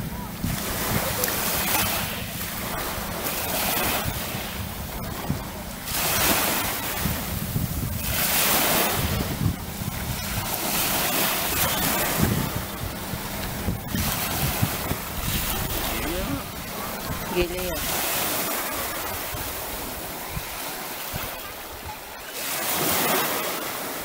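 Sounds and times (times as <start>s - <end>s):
wind buffeting microphone: 0.0s - 22.2s
sea waves washing ashore: 0.0s - 24.0s.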